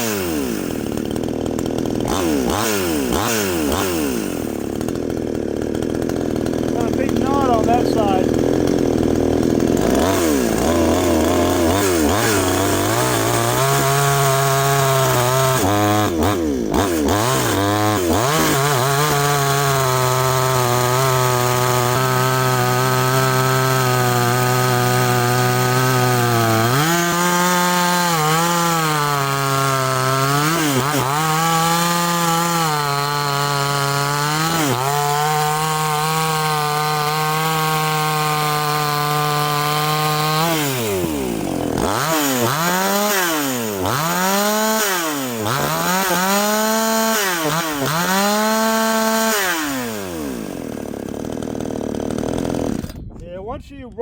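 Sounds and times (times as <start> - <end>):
chainsaw cutting log: 0.0 - 53.3.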